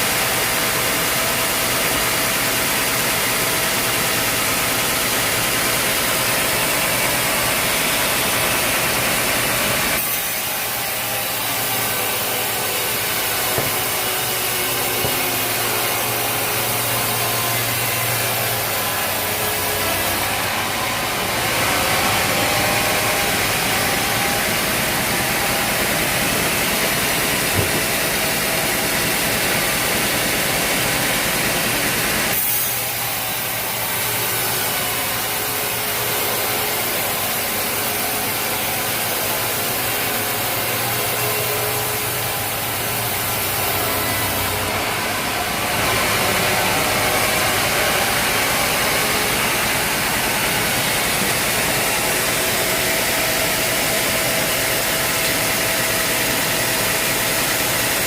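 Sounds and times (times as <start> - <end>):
sawmill engine humming: 0.0 - 58.0
saw blade cutting log: 7.0 - 58.0.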